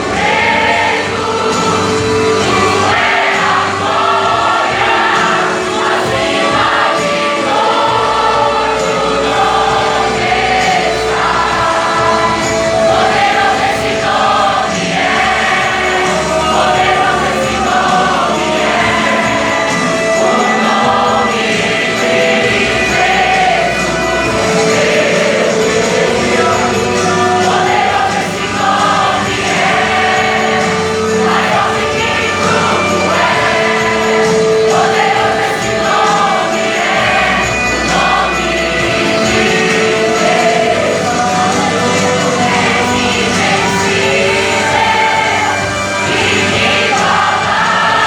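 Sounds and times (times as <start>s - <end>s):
band accompaniment: 0.0s - 48.0s
choir singing: 0.0s - 48.0s.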